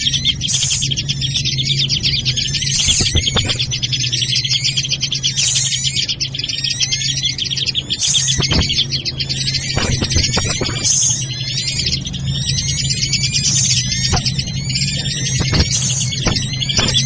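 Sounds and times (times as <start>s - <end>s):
birds chirping and twittering: 0.0s - 17.0s
steady low hum: 0.0s - 17.0s.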